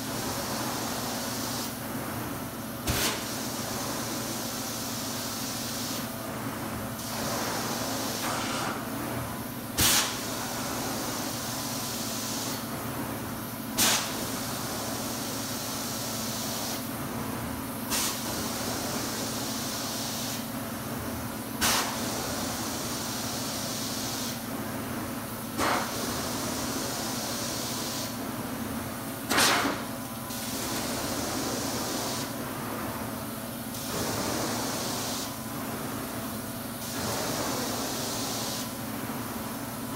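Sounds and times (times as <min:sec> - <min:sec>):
carpet cleaner suction and spray: 0:00.0 - 0:01.8, 0:02.8 - 0:09.1, 0:09.8 - 0:12.7, 0:13.8 - 0:16.9, 0:17.8 - 0:20.5, 0:21.6 - 0:24.4, 0:25.5 - 0:28.2, 0:29.3 - 0:32.8, 0:33.6 - 0:39.8.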